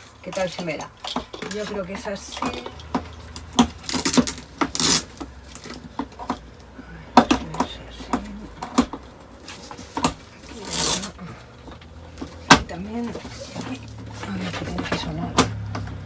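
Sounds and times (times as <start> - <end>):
blind headrail clicking and knocking: 0.0 - 16.0.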